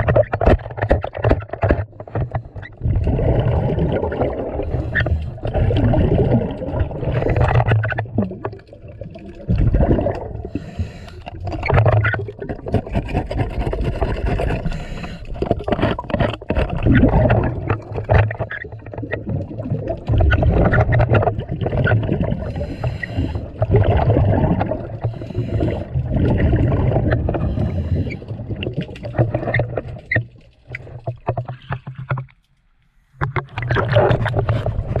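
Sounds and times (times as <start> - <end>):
exhaust bubbles rumbling underwater: 0.0 - 31.6, 33.4 - 35.0.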